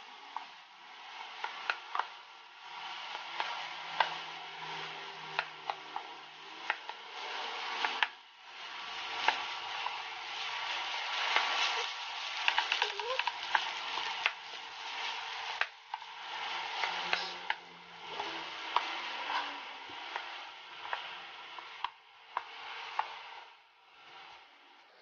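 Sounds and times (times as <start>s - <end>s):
rice sizzling in a pan: 2.6s - 23.5s.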